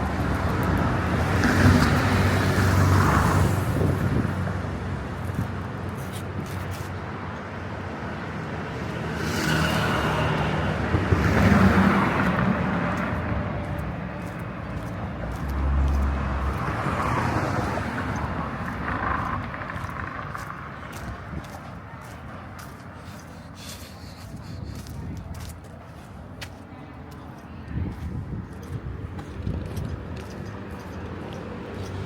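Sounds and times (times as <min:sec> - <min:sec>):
vehicles passing on road: 0:00.0 - 0:32.0.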